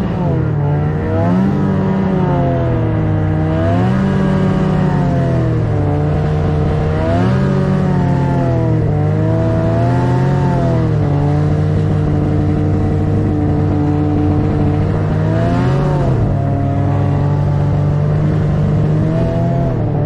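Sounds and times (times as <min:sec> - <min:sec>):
snowmobile engine revving: 0:00.0 - 0:20.0.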